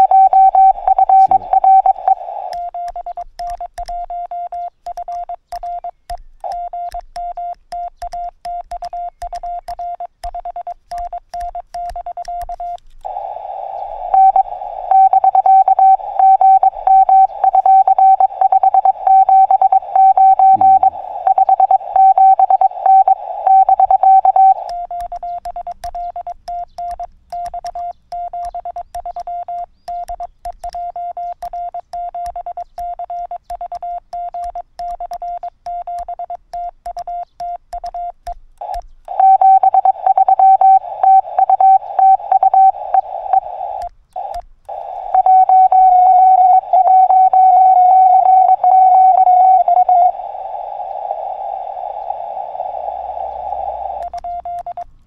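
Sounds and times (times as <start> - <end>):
morse code beeps: 0.0 - 50.2, 52.5 - 54.9.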